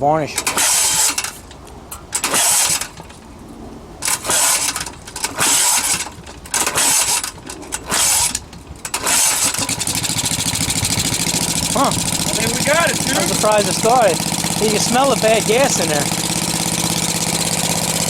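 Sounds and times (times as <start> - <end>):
small engine sputtering and running: 0.4 - 1.5, 2.1 - 3.2, 4.0 - 18.0.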